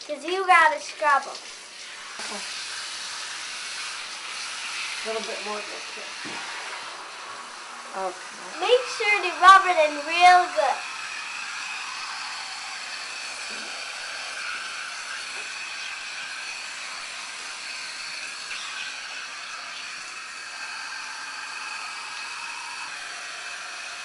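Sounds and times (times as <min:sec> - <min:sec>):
bathtub tap running: 0:00.0 - 0:24.0.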